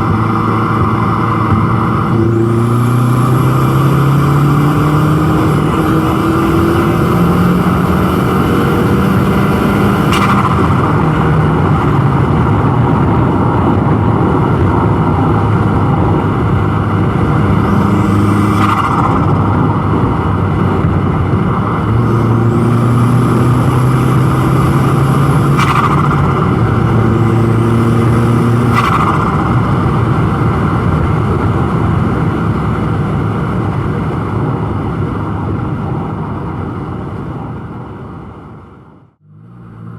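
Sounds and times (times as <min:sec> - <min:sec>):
car engine accelerating: 0:00.0 - 0:36.0, 0:39.1 - 0:39.9.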